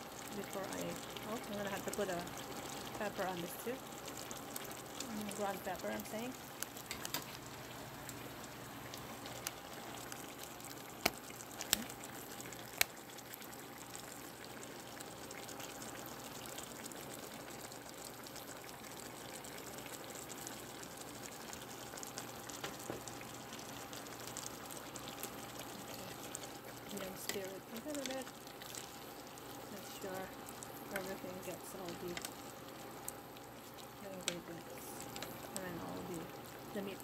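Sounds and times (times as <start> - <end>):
pot of soup simmering: 0.0 - 37.0.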